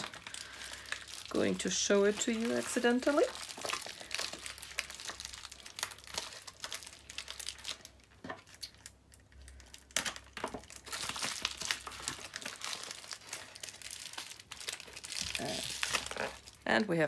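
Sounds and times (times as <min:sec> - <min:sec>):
plastic mailer crinkling: 0:00.0 - 0:16.7.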